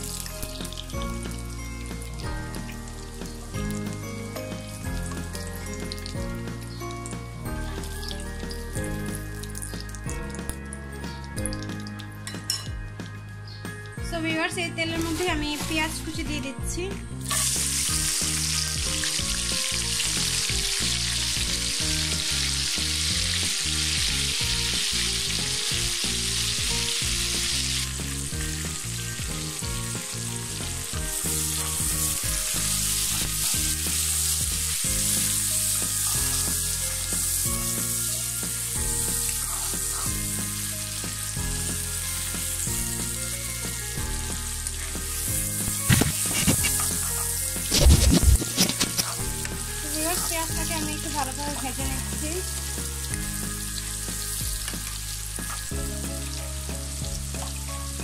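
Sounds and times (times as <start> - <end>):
onions sizzling in oil: 0.0 - 10.5, 14.9 - 16.5, 17.1 - 58.0
soft background music: 0.0 - 58.0.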